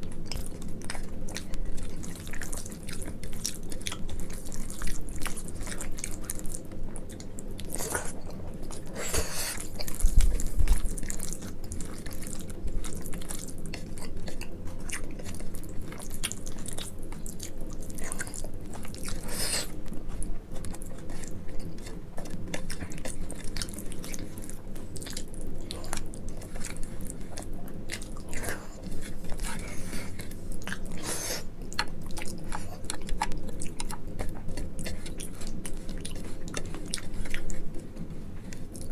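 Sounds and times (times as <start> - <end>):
chewing and wet mouth sounds: 0.0 - 38.9.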